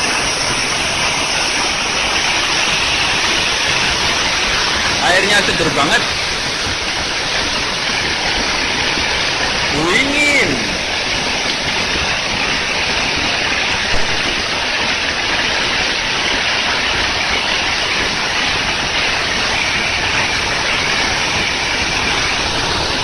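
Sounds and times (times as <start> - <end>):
waterfall pouring: 0.0 - 23.0.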